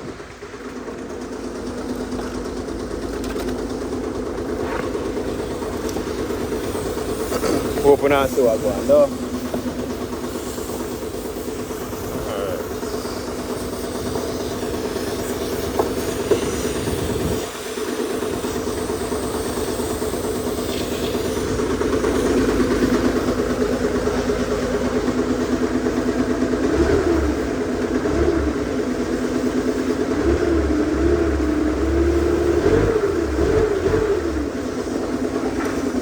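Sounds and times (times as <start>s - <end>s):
engine running and revving: 0.0s - 36.0s.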